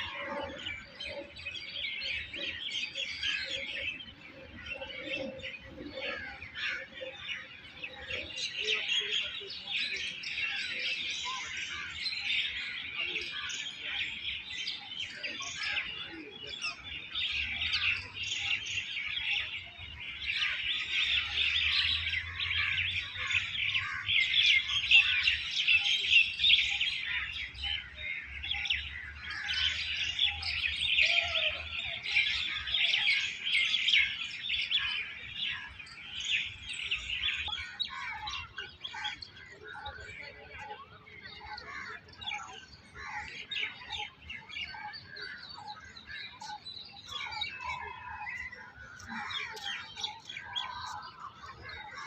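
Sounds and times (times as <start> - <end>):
chorus of small birds chirping: 0.0 - 52.0.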